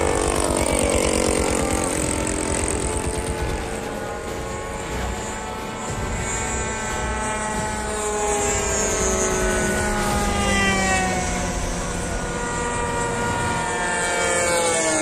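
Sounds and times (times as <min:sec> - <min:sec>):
model plane propellers droning: 0:00.0 - 0:15.0.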